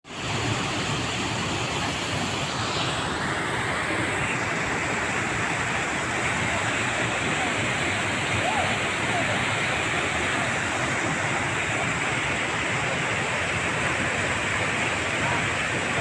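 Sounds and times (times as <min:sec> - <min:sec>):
river water rushing through tunnel: 0:00.1 - 0:16.0.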